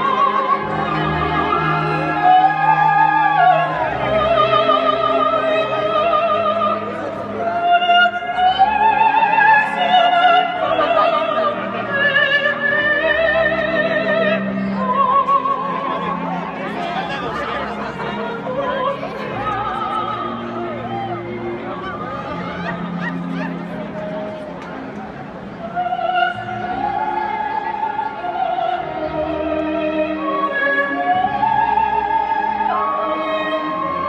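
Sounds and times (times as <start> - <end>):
soprano singing opera: 0.0 - 24.6, 25.5 - 34.0
orchestra: 0.0 - 34.0.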